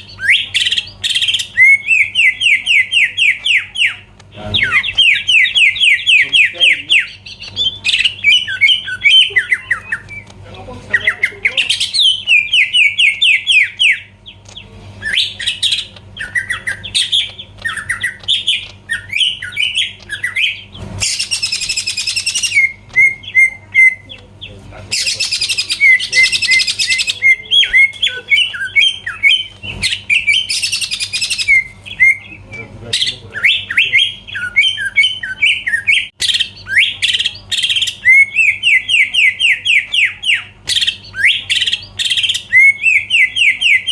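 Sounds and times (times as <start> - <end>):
bird singing whistled notes: 0.0 - 10.3, 15.0 - 24.1, 24.9 - 43.9
faint low hum: 0.0 - 43.9
harsh rasping bird chatter: 0.0 - 43.9.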